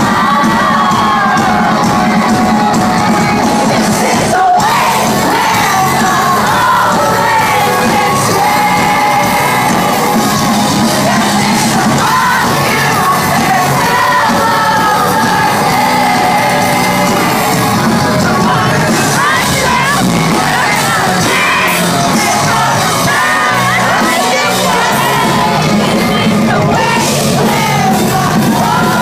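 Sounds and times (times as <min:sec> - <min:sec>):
crowd shouting: 0:00.0 - 0:29.0
live rock band playing: 0:00.0 - 0:29.0
person singing: 0:00.0 - 0:29.0.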